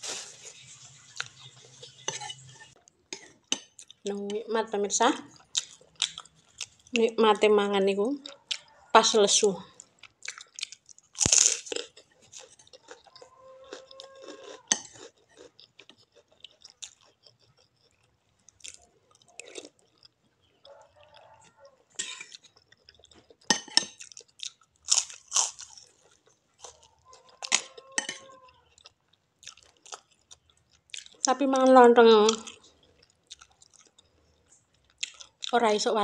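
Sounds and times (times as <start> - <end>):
chewing crisp cracker: 0.0 - 4.1, 5.2 - 7.1, 8.1 - 8.9, 9.6 - 35.6.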